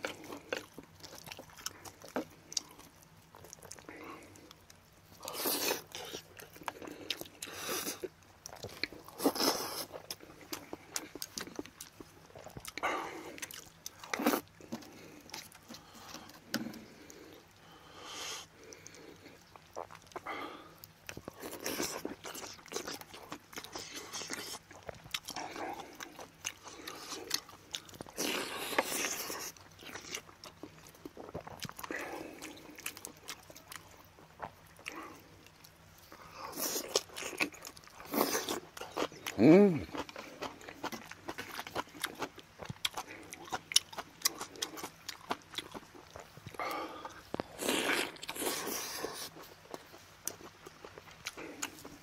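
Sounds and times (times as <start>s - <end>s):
man chewing and biting food: 0.0s - 52.0s.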